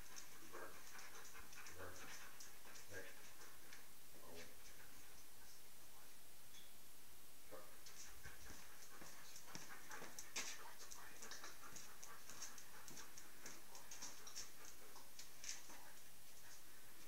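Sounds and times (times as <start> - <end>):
dog panting: 0.0 - 5.3, 7.8 - 17.0.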